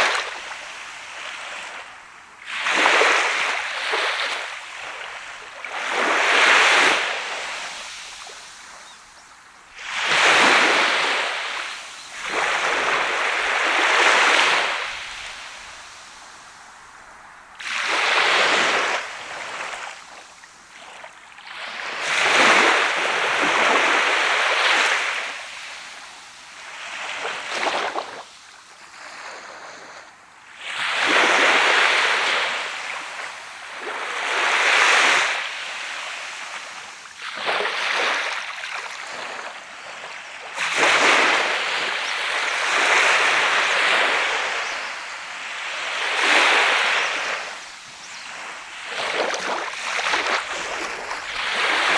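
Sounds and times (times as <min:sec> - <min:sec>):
waves breaking on beach: 0:00.0 - 0:51.9.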